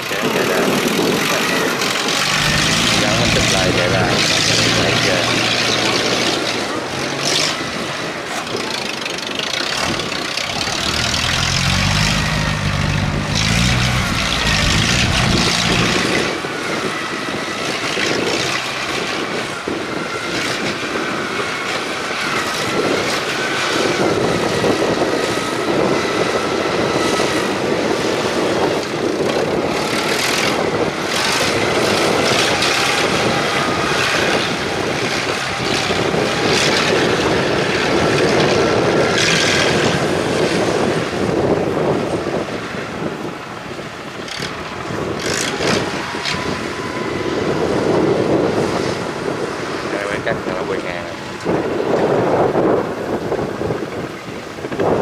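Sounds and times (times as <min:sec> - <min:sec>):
combine harvester running: 0:00.0 - 0:55.0
high wavering machinery whine: 0:00.0 - 0:55.0.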